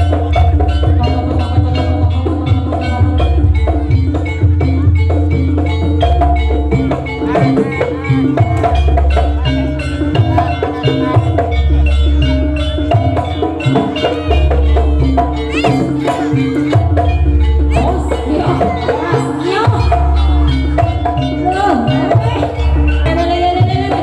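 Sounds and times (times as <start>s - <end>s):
drum strokes: 0.0s - 24.0s
metal percussion melody: 0.0s - 24.0s.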